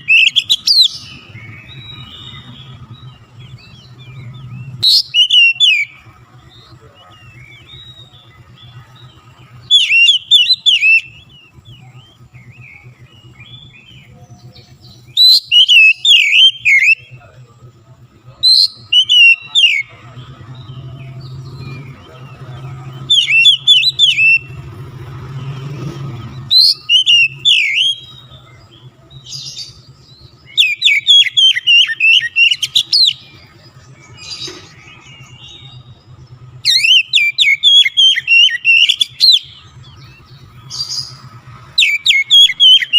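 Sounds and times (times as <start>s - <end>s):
bird singing whistled phrases: 0.0s - 17.2s, 18.4s - 24.7s, 26.3s - 42.9s.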